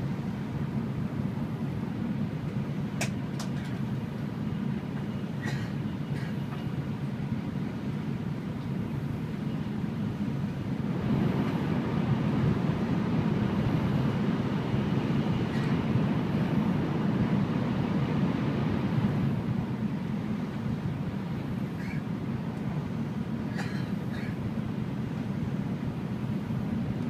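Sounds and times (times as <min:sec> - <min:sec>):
train interior rumble: 0:00.0 - 0:27.0.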